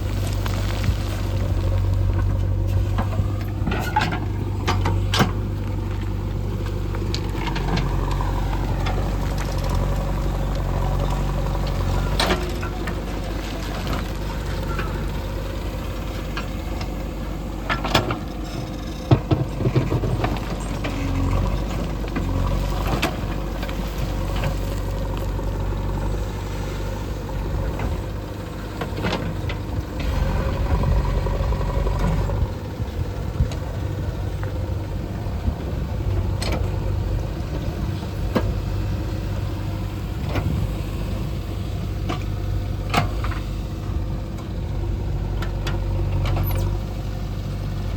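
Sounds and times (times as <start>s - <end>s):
heavy diesel machinery engine: 0.0s - 47.9s.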